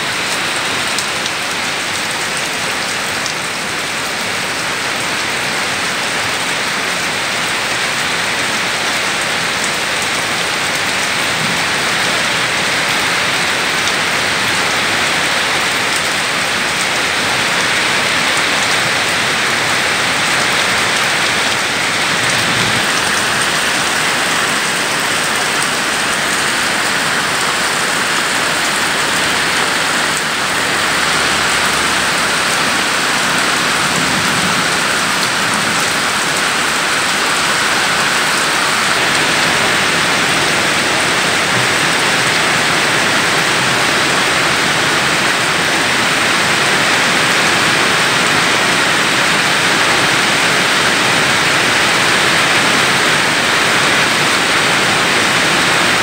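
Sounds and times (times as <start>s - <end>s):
heavy rain on wet ground: 0.0s - 56.0s.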